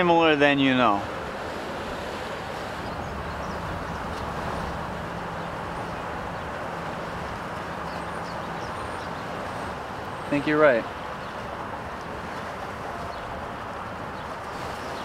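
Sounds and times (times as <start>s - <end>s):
faint low engine hum: 0.2s - 14.9s.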